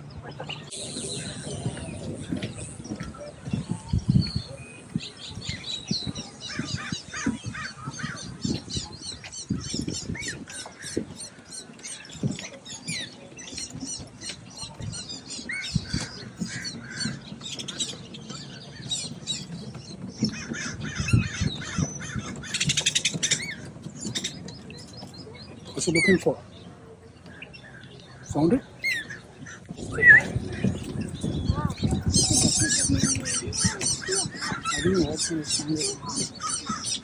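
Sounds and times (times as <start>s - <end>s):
birds chirping and calling: 0.0s - 37.0s.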